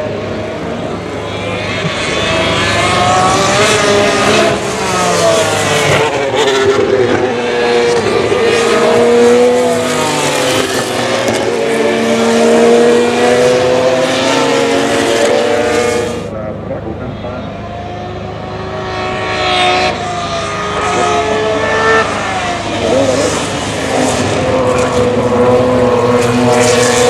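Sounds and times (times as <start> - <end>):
race car engines at high revs: 0.0 - 27.0.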